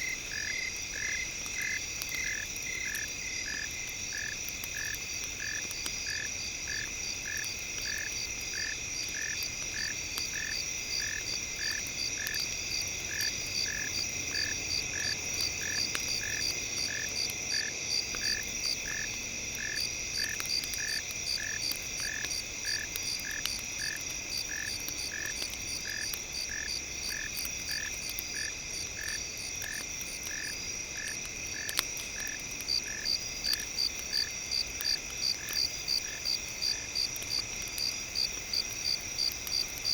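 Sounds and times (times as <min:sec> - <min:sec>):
faint campfire crackles: 0:00.0 - 0:39.9.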